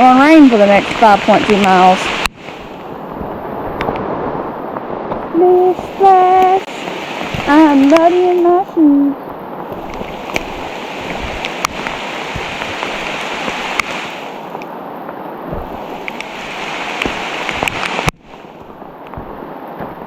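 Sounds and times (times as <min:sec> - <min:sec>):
raindrops ticking close by: 0:00.0 - 0:20.0
steady rain falling: 0:00.0 - 0:20.0.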